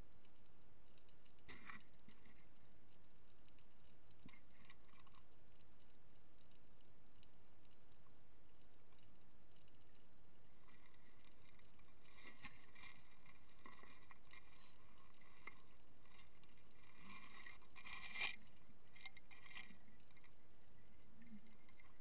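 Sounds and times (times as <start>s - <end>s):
small clicks: 0.2s - 22.0s.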